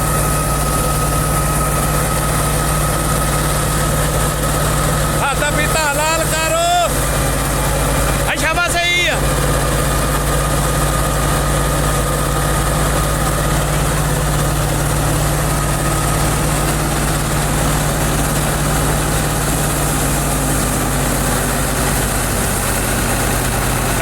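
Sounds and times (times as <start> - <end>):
tractor diesel engine droning: 0.0 - 24.0.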